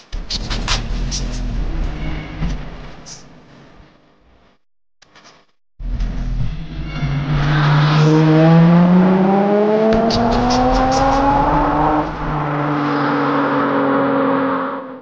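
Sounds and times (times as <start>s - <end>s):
car engine accelerating: 0.0s - 3.2s, 5.8s - 15.0s.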